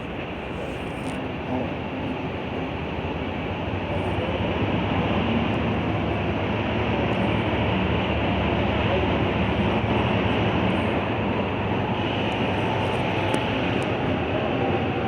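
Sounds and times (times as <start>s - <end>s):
diesel train rumbling: 0.0s - 15.0s
rail noise: 0.0s - 15.0s.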